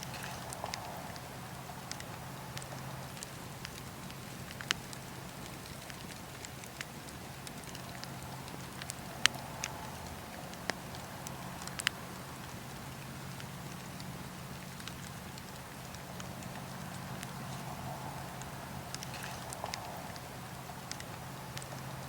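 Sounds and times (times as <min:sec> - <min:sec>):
campfire crackling and popping: 0:00.0 - 0:22.0
low steady hum: 0:00.0 - 0:22.0.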